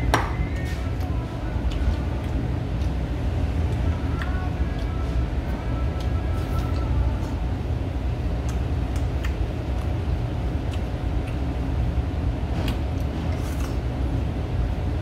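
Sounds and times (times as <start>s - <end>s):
low room rumble: 0.0s - 15.0s
person eating: 0.3s - 14.6s.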